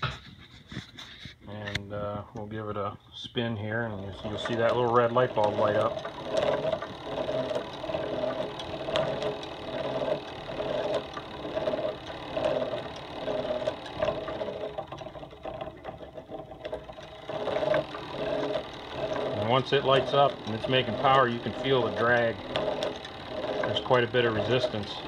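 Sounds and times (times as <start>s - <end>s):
hand-cranked dynamo whirring: 3.4s - 25.0s.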